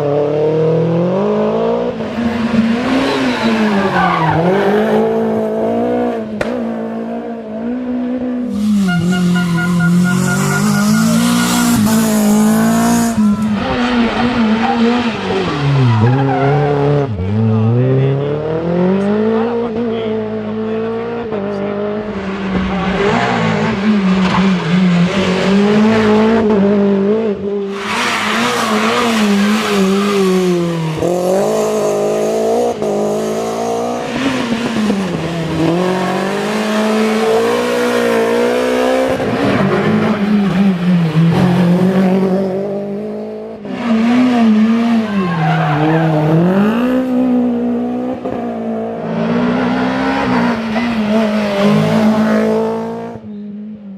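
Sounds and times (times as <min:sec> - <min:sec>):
rally car engine revving hard: 0:00.0 - 0:53.2.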